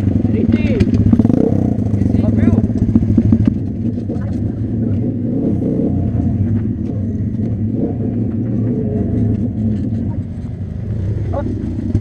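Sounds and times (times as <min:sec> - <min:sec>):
motorbike engine droning: 0:00.0 - 0:12.0.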